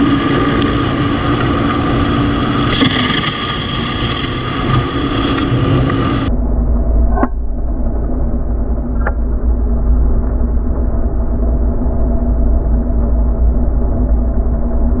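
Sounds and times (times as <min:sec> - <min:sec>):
muffled motorcycle engine running: 0:00.0 - 0:15.0.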